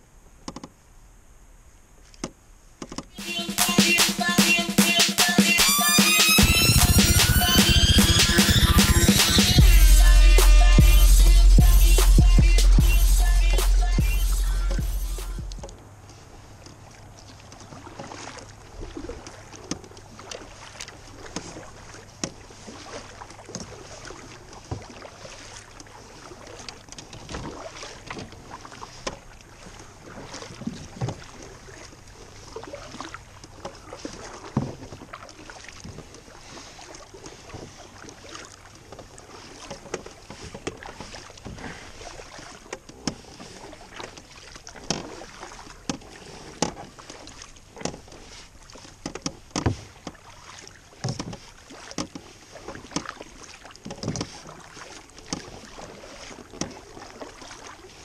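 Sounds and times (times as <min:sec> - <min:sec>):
water splashing against canoe hull: 0:02.0 - 0:58.0.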